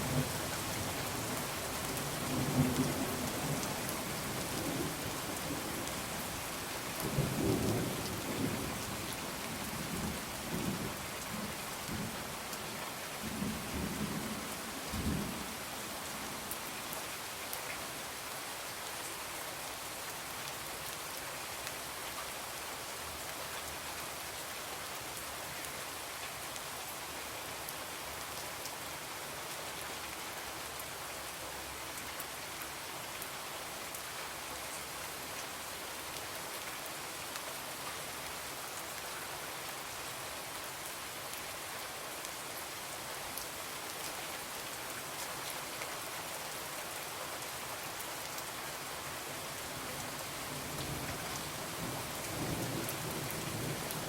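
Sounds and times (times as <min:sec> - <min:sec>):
rain hissing on a window: 0:00.0 - 0:54.0.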